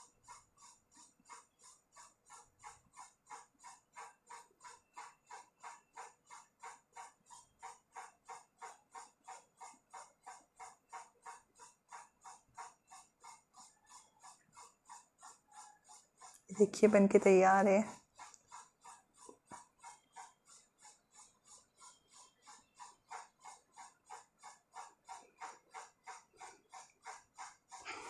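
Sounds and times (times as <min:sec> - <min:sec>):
faint mechanical ticking: 0:00.0 - 0:28.0.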